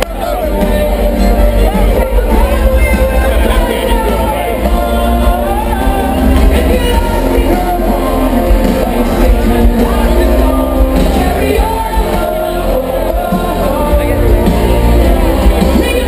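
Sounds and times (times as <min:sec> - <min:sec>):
lead singer singing: 0:00.0 - 0:16.0
live band music: 0:00.0 - 0:16.0.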